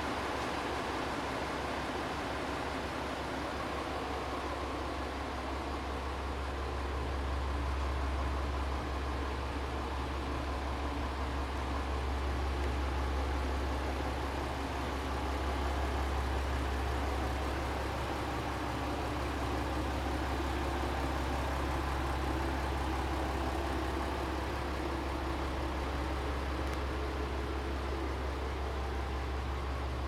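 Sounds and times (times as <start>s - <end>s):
diesel railcar engine idling: 0.0s - 30.0s.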